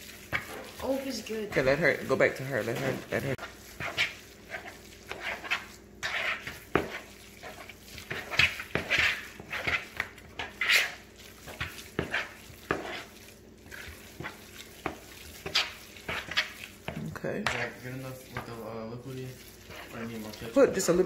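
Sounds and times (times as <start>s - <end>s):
spoon squishing meat mixture: 0.0s - 21.0s.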